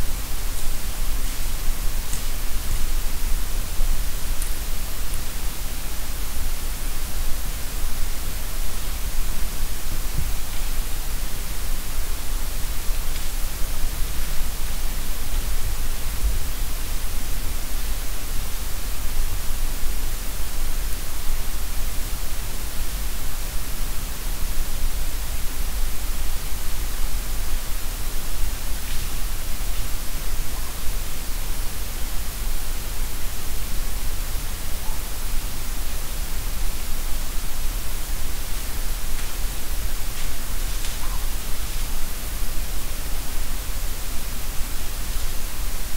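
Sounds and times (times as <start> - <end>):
steady recorder hiss: 0.0 - 45.9.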